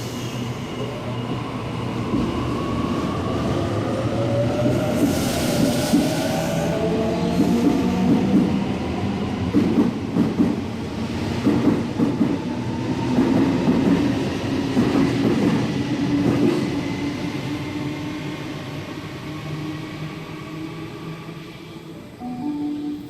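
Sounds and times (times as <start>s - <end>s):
train wheels rumbling on rails: 0.0s - 21.5s.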